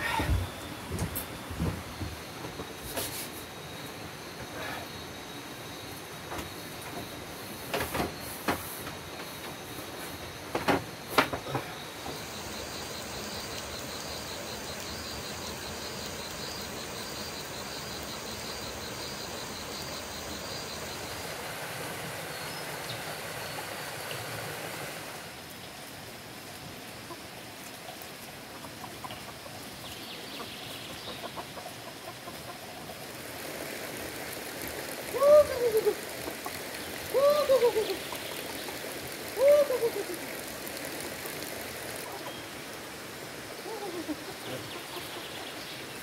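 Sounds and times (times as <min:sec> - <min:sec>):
insects chirping: 0:00.0 - 0:46.0
steady hiss: 0:00.0 - 0:46.0.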